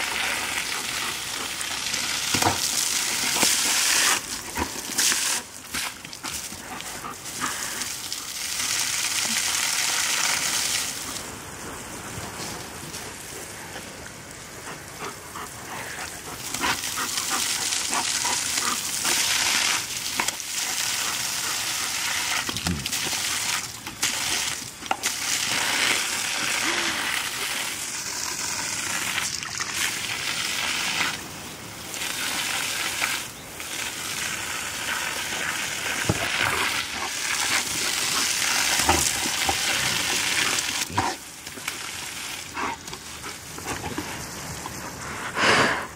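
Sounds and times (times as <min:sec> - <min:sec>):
hose water spraying onto grass: 0:00.0 - 0:45.9.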